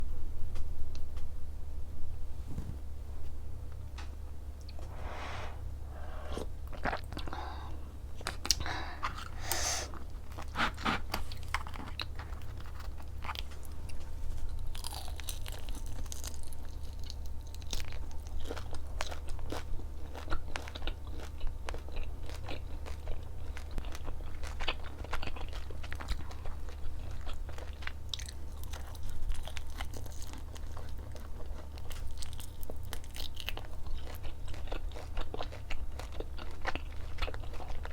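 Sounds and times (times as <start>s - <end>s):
low steady hum: 0.0s - 37.9s
chewing and crunching food: 6.0s - 37.9s.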